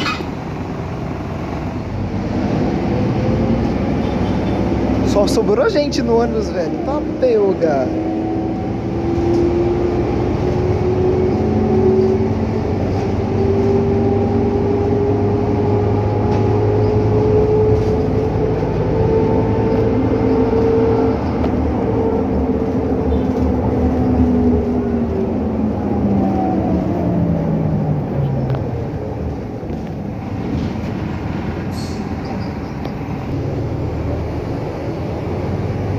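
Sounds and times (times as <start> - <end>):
bus engine accelerating: 0.0 - 35.9
road rumble: 0.0 - 35.9.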